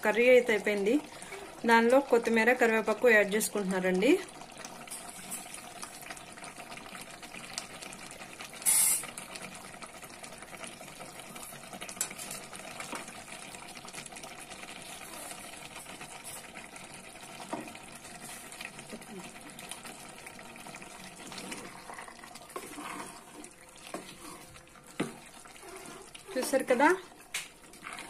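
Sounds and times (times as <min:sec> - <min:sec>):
curry bubbling in pot: 0:00.0 - 0:28.0.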